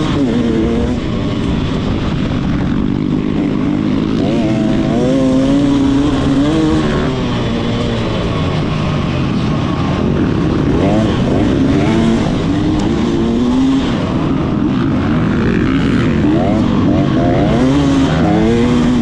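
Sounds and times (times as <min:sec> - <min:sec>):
motocross bike engine revving: 0:00.0 - 0:19.0
wind and track noise: 0:00.0 - 0:19.0.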